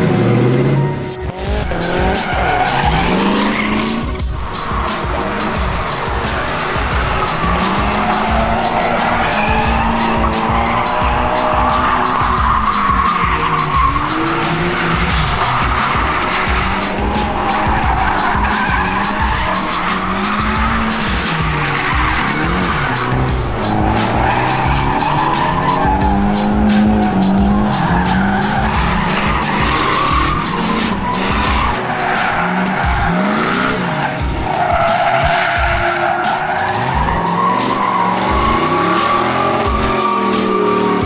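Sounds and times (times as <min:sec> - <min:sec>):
truck engine revving: 0:00.0 - 0:41.0
tires squealing and skidding: 0:00.2 - 0:41.0.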